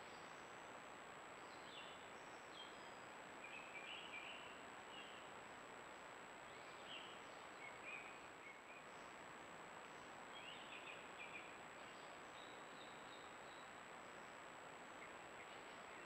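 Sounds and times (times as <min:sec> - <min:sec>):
microphone hiss: 0:00.0 - 0:16.0.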